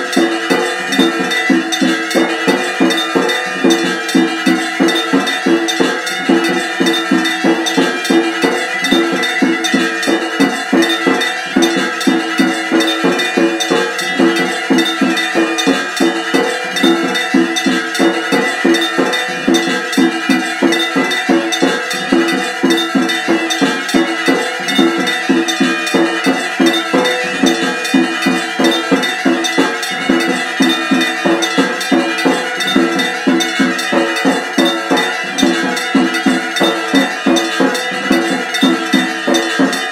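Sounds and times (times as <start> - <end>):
metal temple bells struck: 0.0 - 39.9.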